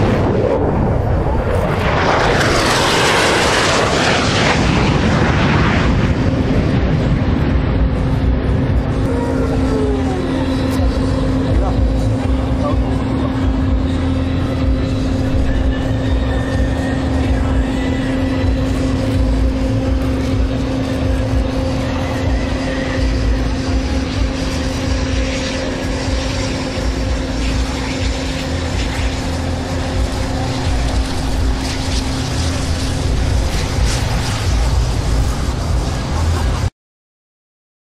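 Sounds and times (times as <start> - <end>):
aircraft engine humming: 0.0 - 36.7.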